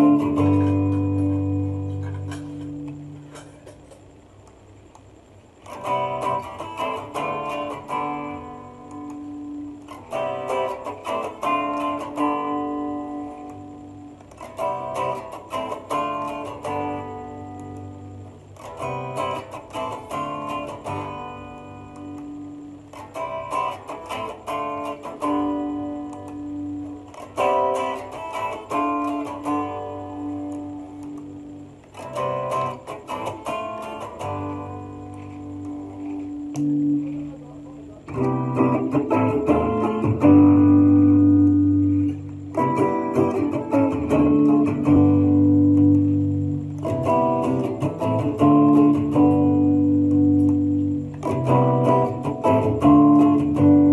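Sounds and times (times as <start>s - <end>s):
electric guitar notes and chords: 0.0s - 53.9s.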